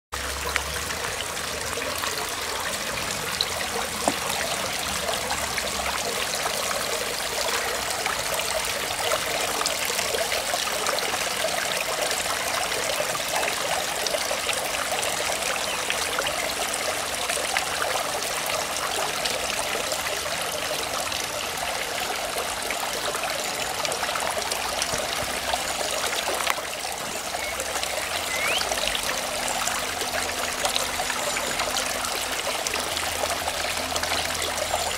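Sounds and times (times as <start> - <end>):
water trickling into pond: 0.1 - 34.9.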